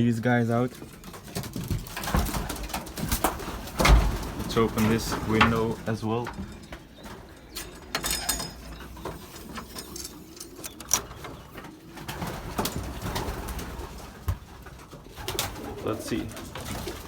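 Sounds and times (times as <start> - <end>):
pigeons cooing: 0.0 - 17.0
rustles and knocks: 0.7 - 15.5.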